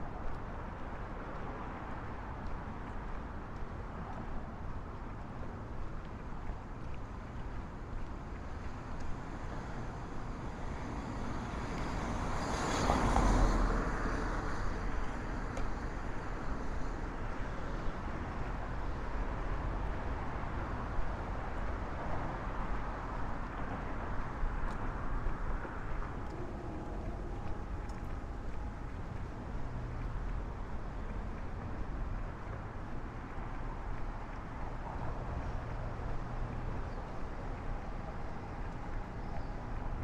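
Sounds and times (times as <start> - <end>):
street traffic noise: 0.0 - 40.0.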